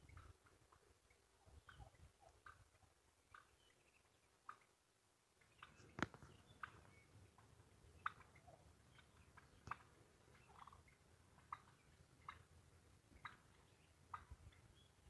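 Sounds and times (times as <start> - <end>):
wild turkey calls: 0.0 - 15.0.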